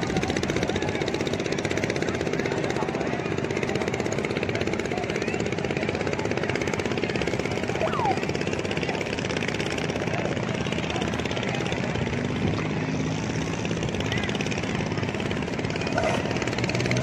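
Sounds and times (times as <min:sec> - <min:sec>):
lower engine note: 0:00.0 - 0:17.0
outboard engines droning: 0:00.0 - 0:17.0.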